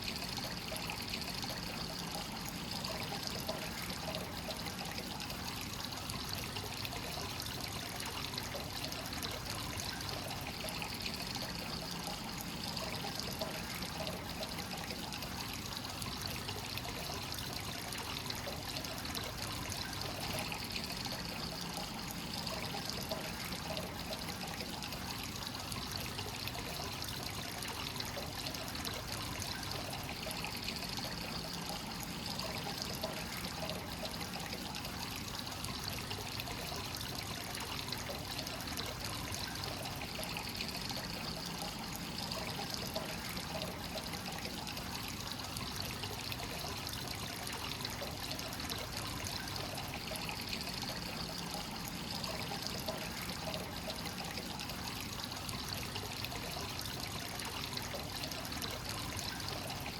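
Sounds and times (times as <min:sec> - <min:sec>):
water pouring into a bath: 0:00.0 - 0:59.9.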